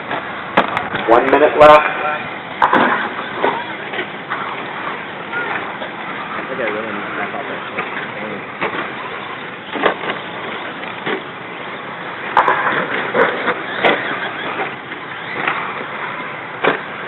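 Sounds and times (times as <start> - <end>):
rc truck motors whirring: 3.0 - 17.0.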